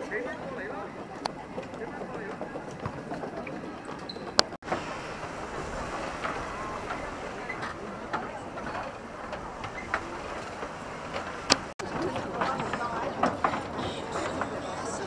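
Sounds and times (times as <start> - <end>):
faint indistinct chatter: 0.0 - 15.0
footsteps on wooden boardwalk: 0.0 - 15.0.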